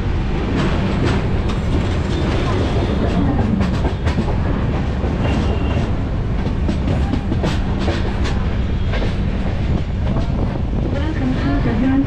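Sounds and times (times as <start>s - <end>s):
train wheels rumbling on track: 0.0s - 12.0s
track clicks and clacks: 0.4s - 12.0s.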